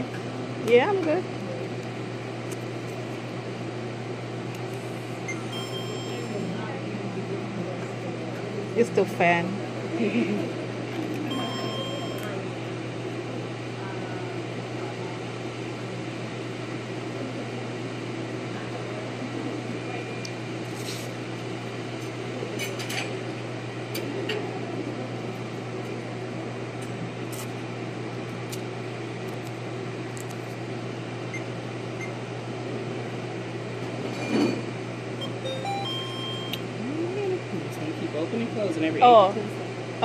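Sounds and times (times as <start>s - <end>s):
low hum of machine: 0.0s - 40.0s.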